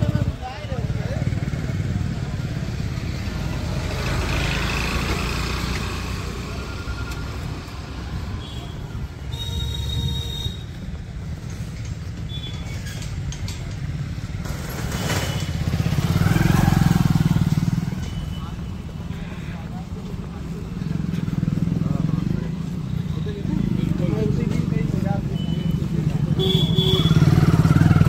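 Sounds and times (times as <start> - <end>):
motorcycle and car engines rumbling: 0.0 - 28.0.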